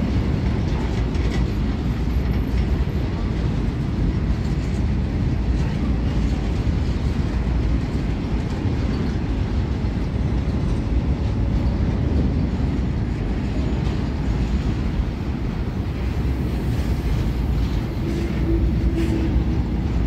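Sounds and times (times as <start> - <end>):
freight train wagons rumbling on rails: 0.0 - 20.0.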